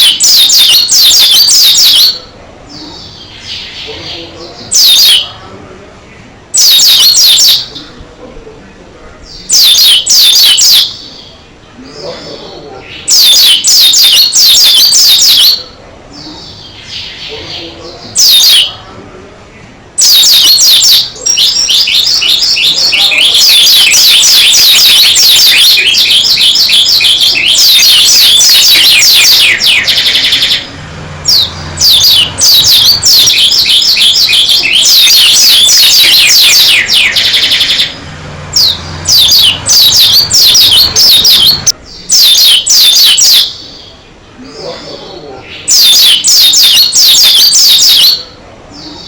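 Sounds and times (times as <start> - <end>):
bird twittering: 0.0 - 5.4, 6.1 - 8.0, 9.2 - 18.9, 19.5 - 49.0.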